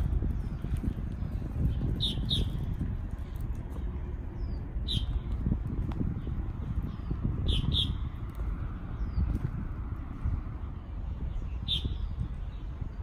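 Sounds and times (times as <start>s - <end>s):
low rumbling background: 0.0s - 13.0s.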